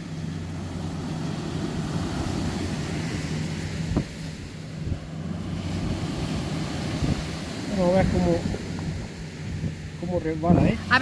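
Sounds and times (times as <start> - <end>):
surf on a beach: 0.0 - 11.0
wind buffeting the microphone: 0.7 - 11.0.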